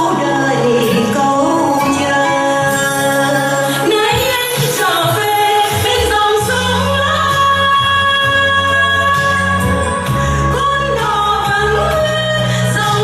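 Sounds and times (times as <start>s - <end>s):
steady bass accompaniment: 0.0s - 13.0s.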